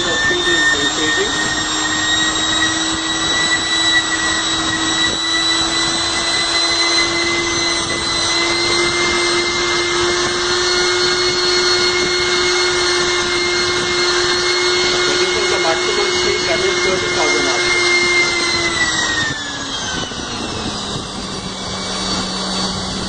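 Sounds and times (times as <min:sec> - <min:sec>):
lab homogenizer motor whine: 0:00.0 - 0:23.0.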